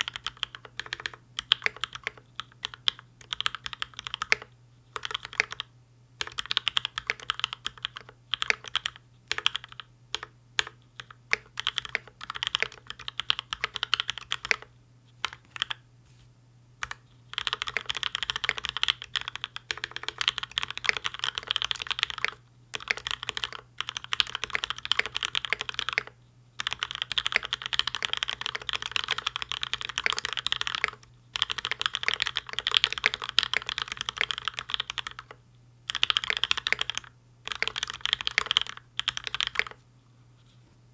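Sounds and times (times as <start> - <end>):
mechanical keyboard typing: 0.0 - 15.8, 16.8 - 39.8.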